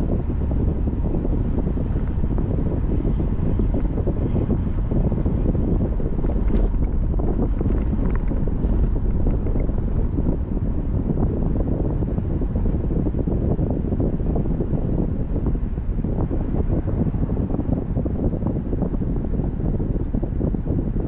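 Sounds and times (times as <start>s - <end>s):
car road and wind rumble: 0.0s - 21.0s
wind buffeting microphone: 0.0s - 21.0s.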